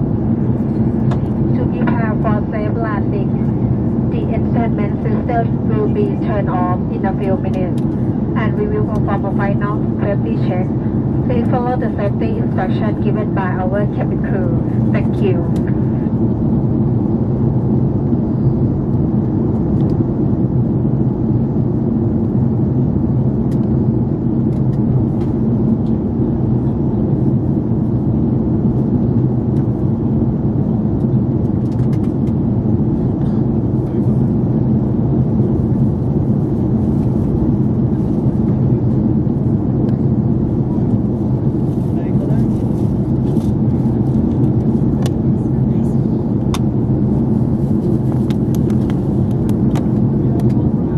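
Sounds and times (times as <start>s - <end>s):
jet engines droning: 0.0s - 50.9s.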